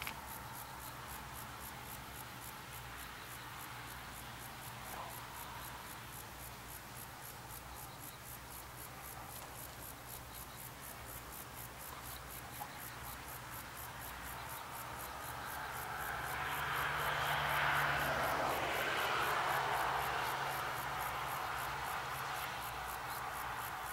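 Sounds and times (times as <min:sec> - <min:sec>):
insects chirping: 0:00.0 - 0:23.9.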